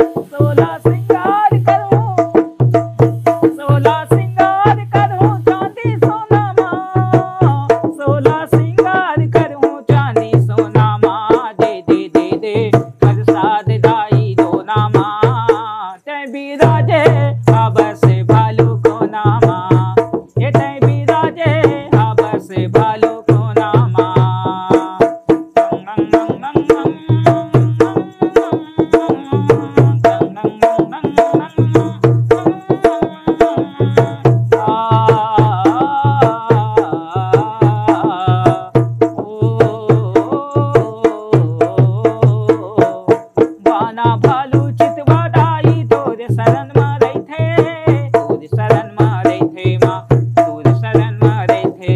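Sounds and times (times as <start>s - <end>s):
hand drum beating: 0.0s - 51.9s
man singing folk song: 0.0s - 51.9s.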